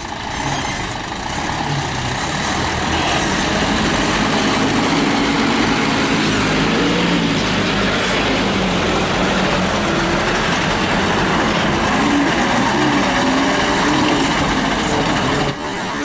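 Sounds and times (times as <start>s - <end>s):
road noise: 0.0s - 16.0s
truck engine running: 0.0s - 16.0s.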